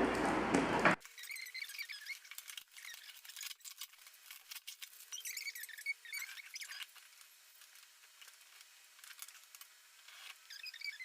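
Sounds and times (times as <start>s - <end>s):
gift package squeaking and clicking: 1.0s - 8.4s, 9.0s - 11.0s.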